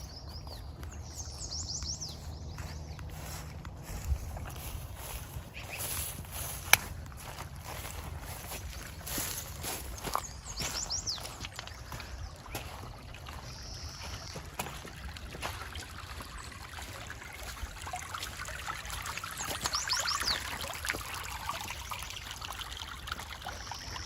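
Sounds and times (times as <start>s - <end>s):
water trickling: 0.0s - 24.0s.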